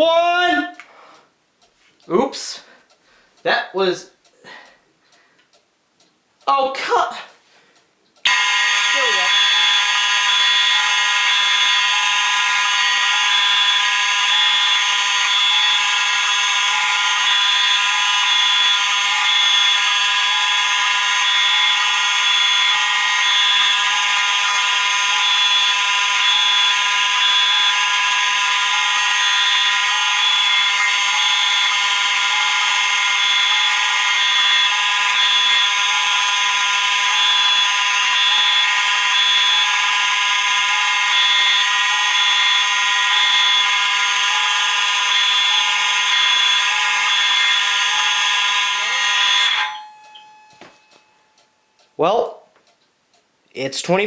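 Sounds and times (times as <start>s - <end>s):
fire alarm sounders: 8.2s - 52.0s.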